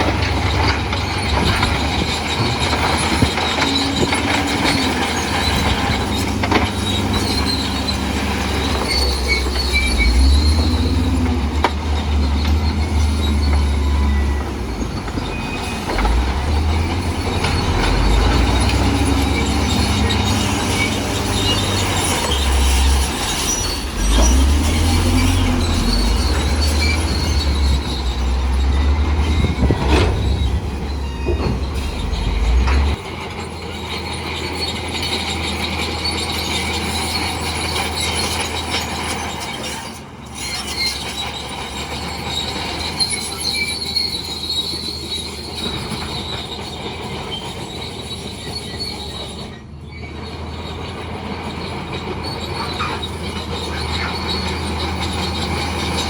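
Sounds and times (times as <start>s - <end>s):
crawler tracks squealing: 0.0s - 56.0s
diesel engine rumble: 0.0s - 56.0s.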